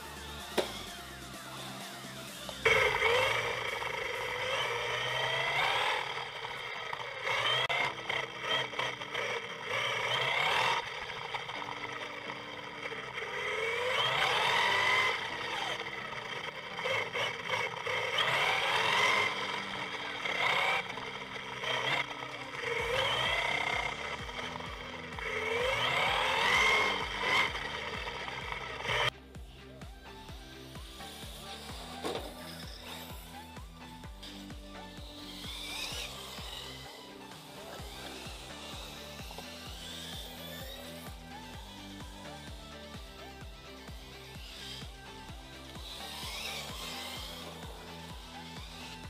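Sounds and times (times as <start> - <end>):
background music: 0.0 - 49.0
rc car motor whine: 0.0 - 49.0.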